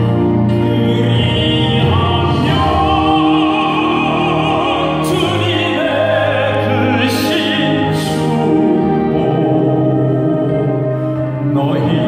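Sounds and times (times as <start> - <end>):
man singing into a microphone: 0.5 - 12.0.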